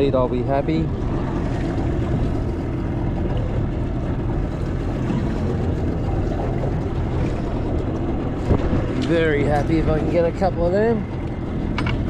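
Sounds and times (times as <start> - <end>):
boat low rumble: 0.0 - 12.0.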